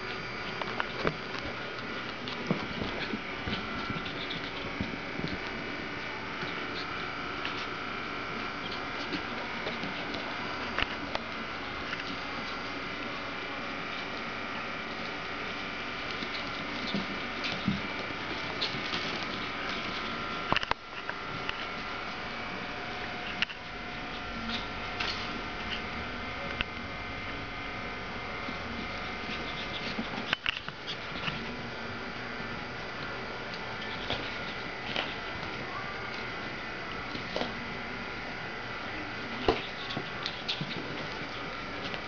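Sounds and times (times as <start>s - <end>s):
steady background hum: 0.0s - 42.0s
puppies tapping and scuffling: 0.1s - 26.8s, 28.5s - 31.7s, 33.0s - 36.3s, 36.9s - 37.6s, 39.1s - 42.0s.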